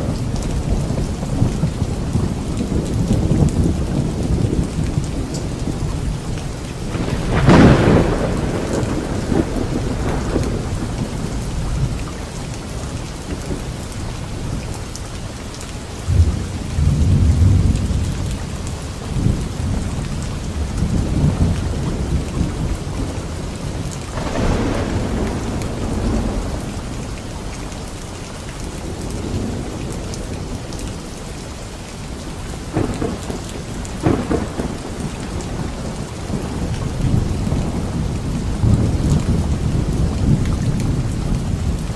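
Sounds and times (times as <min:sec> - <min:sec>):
heavy rain: 0:00.0 - 0:41.9
thunder claps and rumbles: 0:00.0 - 0:41.9.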